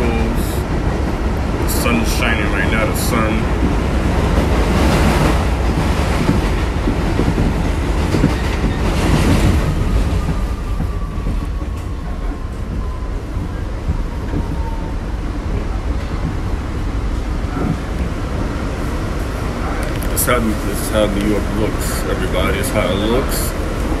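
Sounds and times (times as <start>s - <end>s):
subway wheels rumbling on rails: 0.0s - 24.0s.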